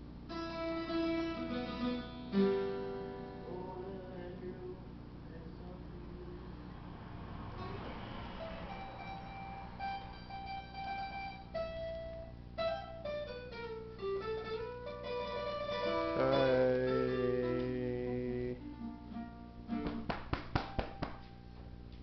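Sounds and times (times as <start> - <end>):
plucked guitar-like music: 0.0 - 4.8, 7.6 - 21.4.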